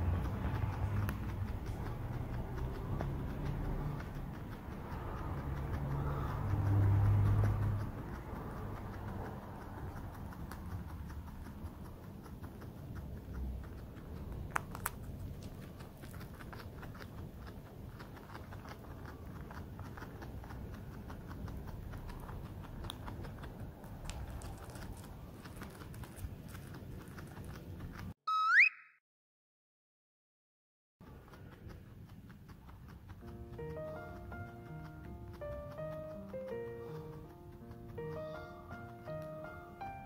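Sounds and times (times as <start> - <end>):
guinea pig crunching hay: 0.0 - 28.2, 31.0 - 40.0.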